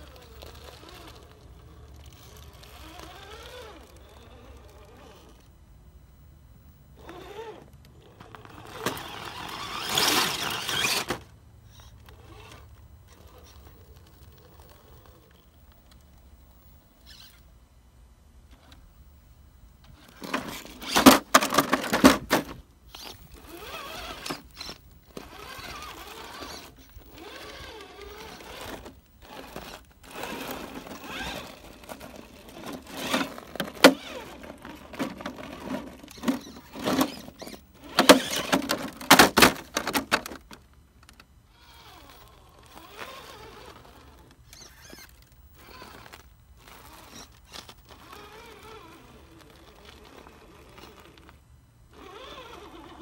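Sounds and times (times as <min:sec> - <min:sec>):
electric motor and gears whining: 0:00.0 - 0:05.6, 0:06.9 - 0:17.5, 0:19.8 - 0:53.0.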